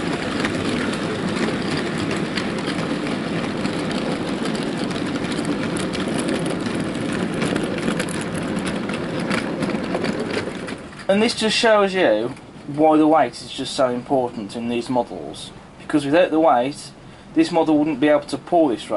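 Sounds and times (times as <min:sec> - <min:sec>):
model train rumbling on track: 0:00.0 - 0:18.9.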